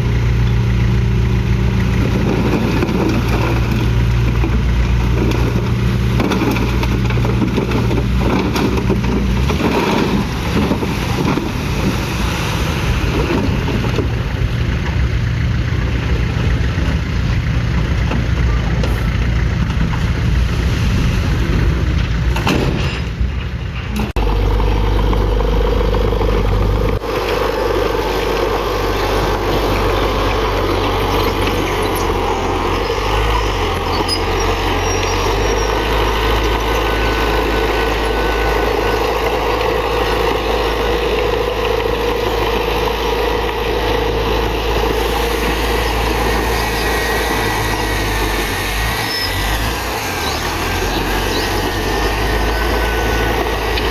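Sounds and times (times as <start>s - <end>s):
heavy diesel machinery running: 0.0s - 53.9s.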